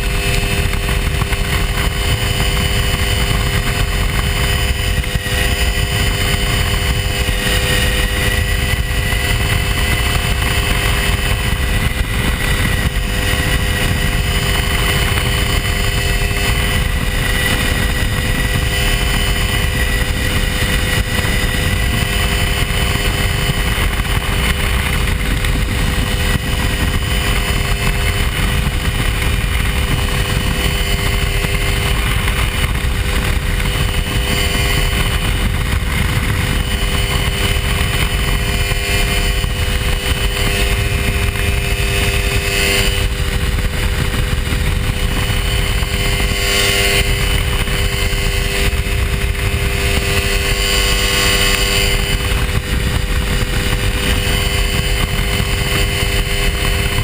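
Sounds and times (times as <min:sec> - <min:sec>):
light aircraft engine in flight: 0:00.0 - 0:57.0
rushing noise: 0:00.0 - 0:57.0.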